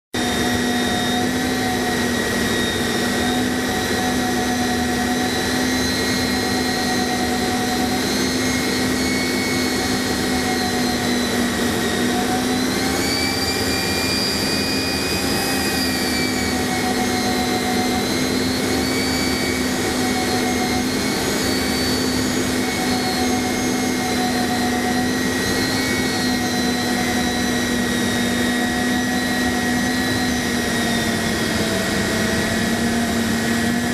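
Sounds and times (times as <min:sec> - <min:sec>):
jet engine whine and rush: 0:00.1 - 0:33.9.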